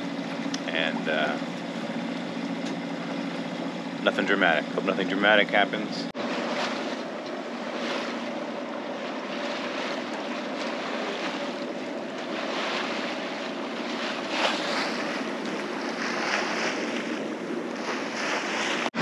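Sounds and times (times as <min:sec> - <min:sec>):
boat engine drone: 0:00.0 - 0:19.0
water rushing along hull: 0:00.0 - 0:19.0.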